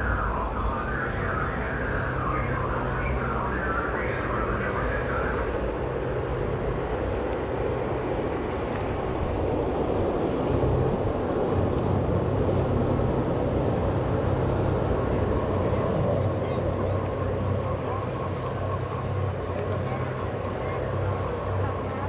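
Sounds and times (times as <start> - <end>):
rumbling background noise: 0.0 - 22.0.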